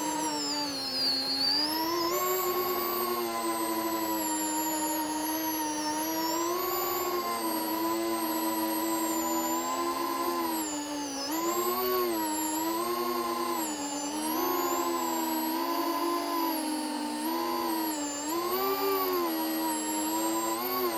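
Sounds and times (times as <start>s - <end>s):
drone motors and propellers whining: 0.0s - 20.9s.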